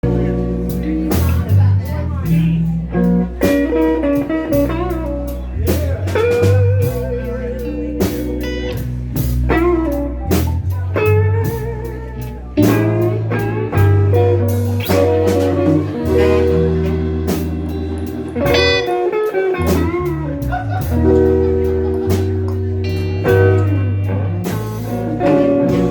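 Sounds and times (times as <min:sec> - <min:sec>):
bass line: 0:00.0 - 0:25.9
guitar lead with wavering notes: 0:00.0 - 0:25.9.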